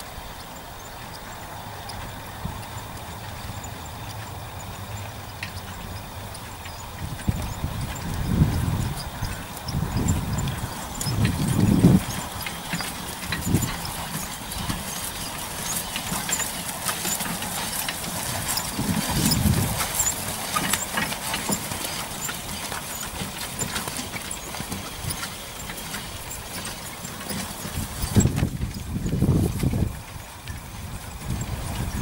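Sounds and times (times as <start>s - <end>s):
carriage and harness rattling: 0.0s - 32.0s
horse hoofbeats on grass: 0.0s - 32.0s.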